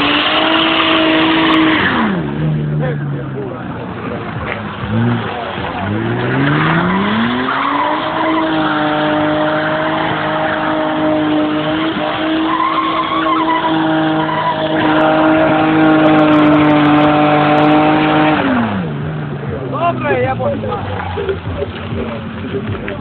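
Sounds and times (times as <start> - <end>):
tyres squealing on pavement: 0.0 - 18.9
car engine revving: 0.0 - 23.0.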